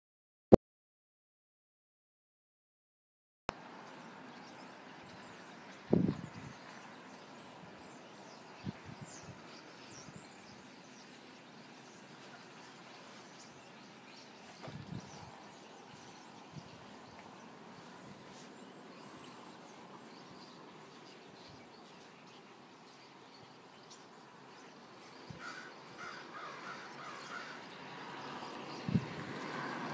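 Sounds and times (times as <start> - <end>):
outdoor background hiss: 3.5 - 29.9
faint bird calls: 3.9 - 29.8.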